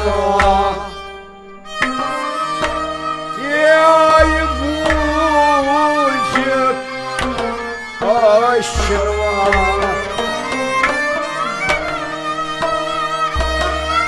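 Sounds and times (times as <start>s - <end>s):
bowed string instrument melody: 0.0s - 14.0s
keyboard melody: 0.0s - 14.0s
plucked lutes: 0.0s - 14.0s.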